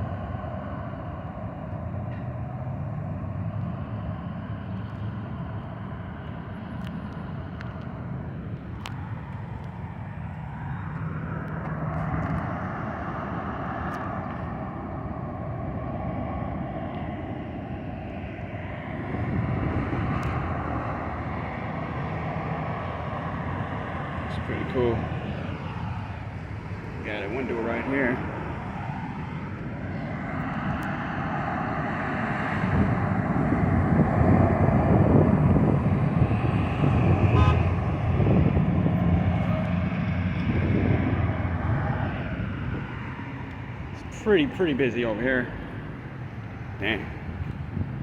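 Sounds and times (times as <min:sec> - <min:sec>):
car engine and road rumble: 0:00.0 - 0:48.0.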